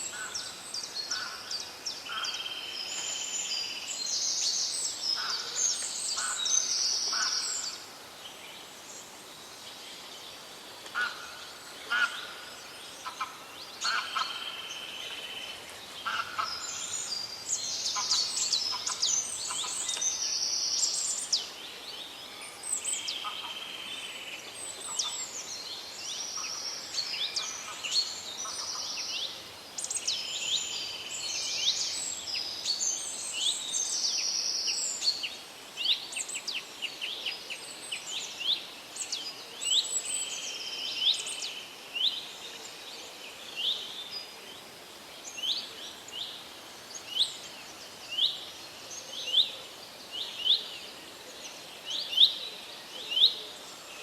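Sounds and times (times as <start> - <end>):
songbirds singing: 0.0 - 54.0
steady background hiss: 0.0 - 54.0.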